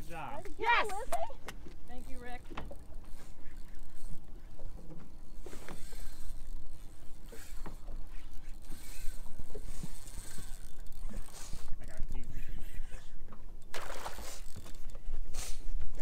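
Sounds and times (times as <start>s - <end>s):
water lapping against boat hull: 0.4s - 16.0s.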